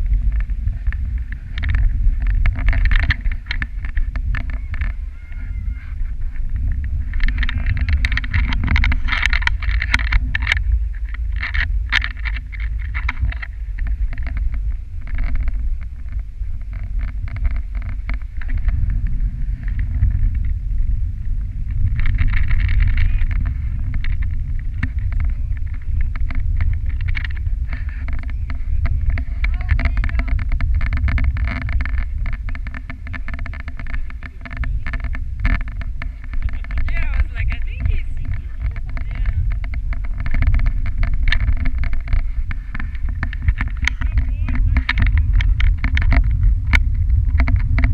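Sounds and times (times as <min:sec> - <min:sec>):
dog sled runners scraping snow: 0:00.0 - 0:47.9.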